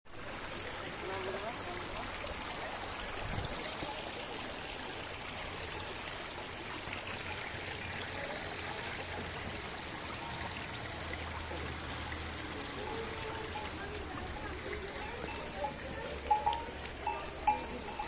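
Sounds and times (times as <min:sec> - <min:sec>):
stream water rushing: 0:00.1 - 0:18.0.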